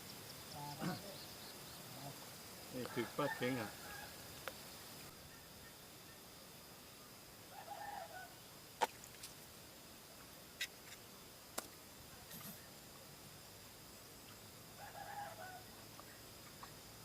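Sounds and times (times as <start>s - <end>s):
faint high insect whine: 0.0s - 17.0s.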